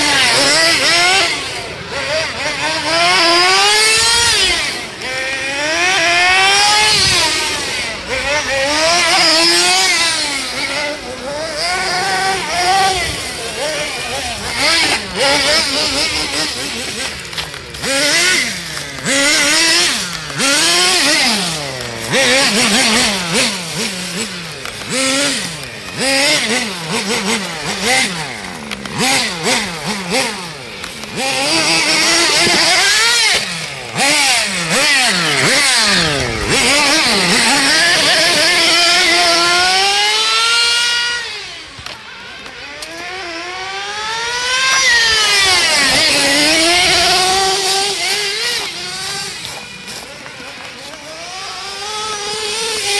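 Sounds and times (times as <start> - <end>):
small engine revving: 0.0 - 52.9.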